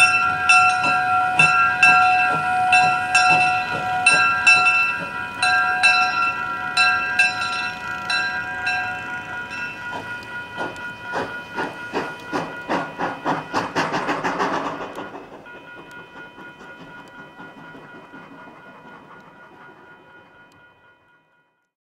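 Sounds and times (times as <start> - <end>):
steam locomotive chuffing: 0.0 - 21.2
crossing bell ringing: 0.0 - 21.7.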